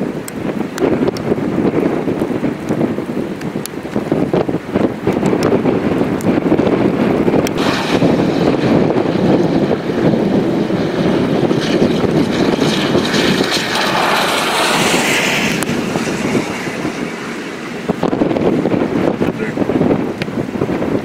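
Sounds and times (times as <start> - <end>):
storm wind buffeting microphone: 0.0 - 21.0.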